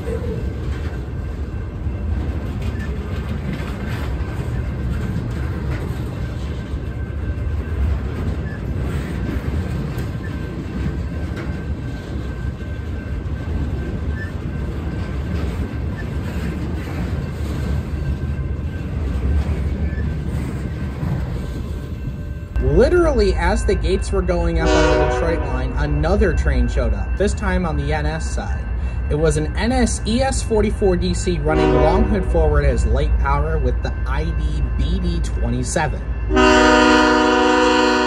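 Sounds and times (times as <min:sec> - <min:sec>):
freight train wheels rumbling on rail: 0:00.0 - 0:38.0.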